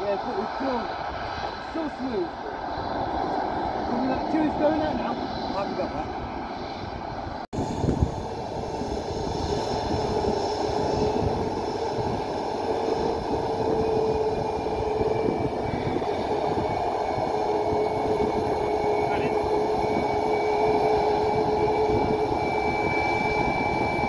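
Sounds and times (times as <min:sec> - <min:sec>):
high engine whine: 0:00.0 - 0:24.0
jet engines idling: 0:00.0 - 0:24.0.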